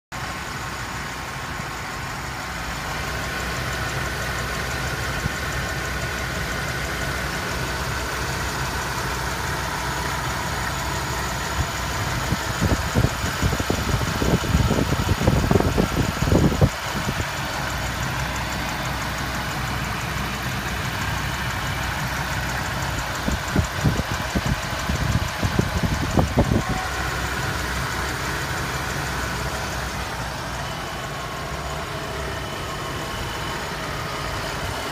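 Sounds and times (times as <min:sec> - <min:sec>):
car engine idling with misfire: 0:00.1 - 0:34.9
engine ticking: 0:00.1 - 0:34.9.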